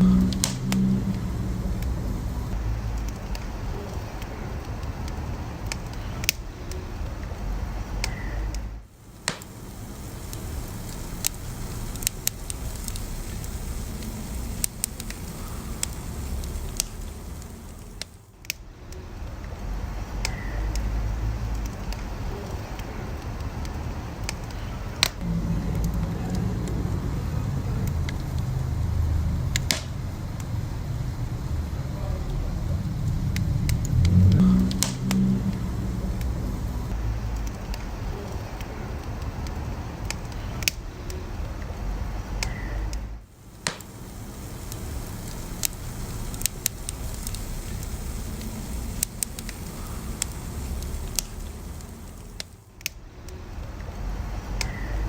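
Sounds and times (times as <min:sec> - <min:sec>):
fire crackling and popping: 0:00.0 - 0:55.0
wood fire rumbling: 0:00.0 - 0:55.0.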